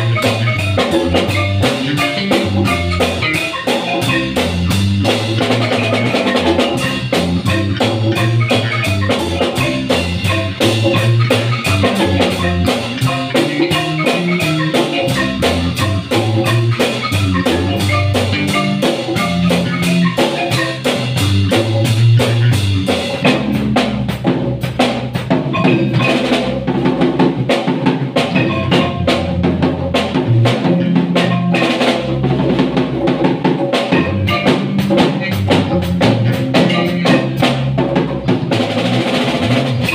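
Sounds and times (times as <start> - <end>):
congas: 0.0 - 39.9
drum kit: 0.0 - 39.9
marimba playing: 0.0 - 39.9.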